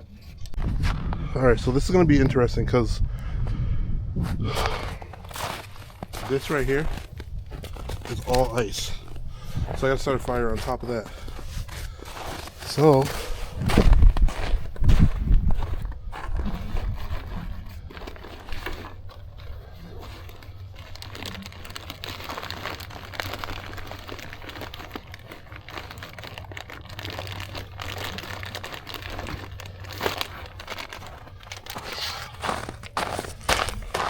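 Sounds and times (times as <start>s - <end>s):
paper crumpling and tearing: 4.7s - 34.0s.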